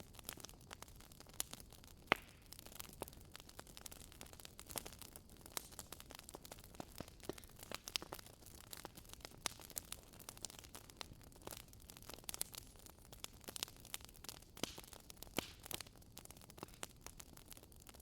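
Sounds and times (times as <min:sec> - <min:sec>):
wood fire crackling in fireplace: 0:00.0 - 0:18.0.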